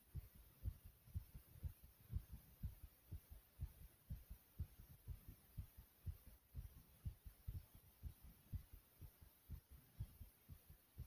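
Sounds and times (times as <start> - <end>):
heart beating fast: 0.0 - 11.0.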